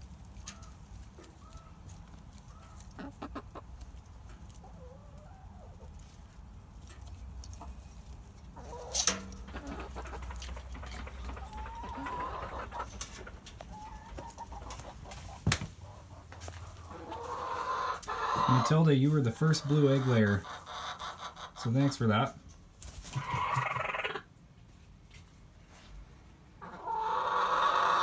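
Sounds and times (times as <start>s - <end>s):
hens clucking softly: 0.3s - 22.3s, 23.0s - 24.3s, 26.6s - 28.0s.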